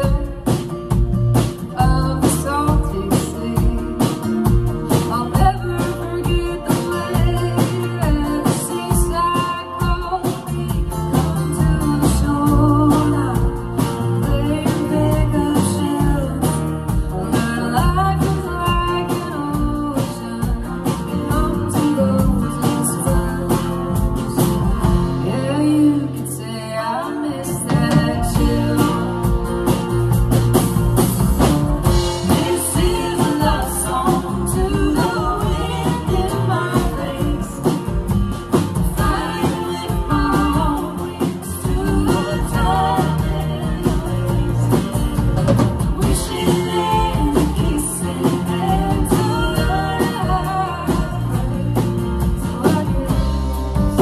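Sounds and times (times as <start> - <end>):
acoustic guitar: 0.0 - 54.0
bass guitar: 0.0 - 54.0
drums: 0.0 - 54.0
electric guitar: 0.0 - 54.0
women singing: 1.5 - 29.6, 31.8 - 54.0.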